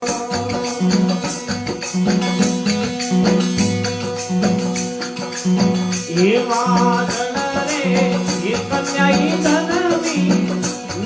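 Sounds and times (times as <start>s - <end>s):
jingling hand percussion: 0.0s - 11.0s.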